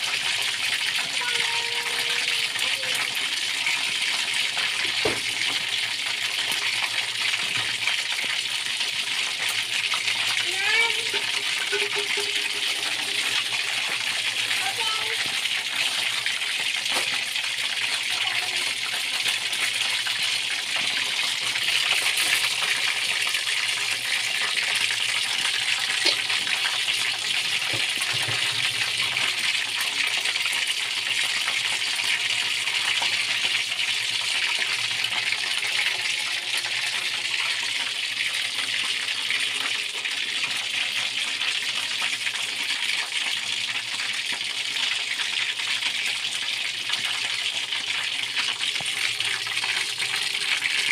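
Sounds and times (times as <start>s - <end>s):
oil sizzling with crackles: 0.0s - 50.9s.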